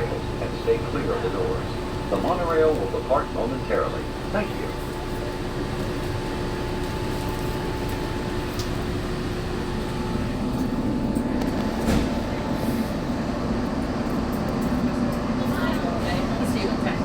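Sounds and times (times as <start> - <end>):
monorail hum and whir: 0.0 - 17.0.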